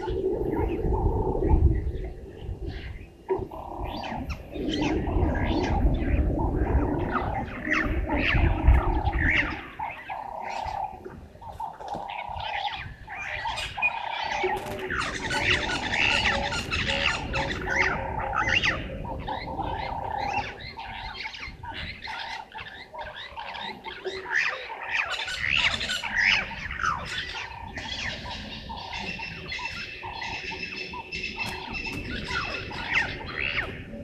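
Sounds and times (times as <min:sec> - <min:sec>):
wild birds chirping and squawking: 0:00.0 - 0:34.0.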